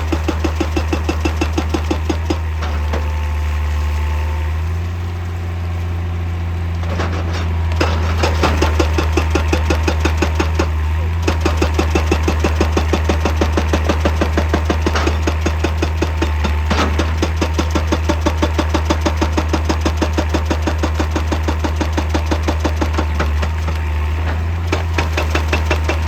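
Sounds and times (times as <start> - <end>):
hydraulic breaker hammering rock: 0.0 - 3.4, 6.8 - 26.0
diesel engine running: 0.0 - 26.0.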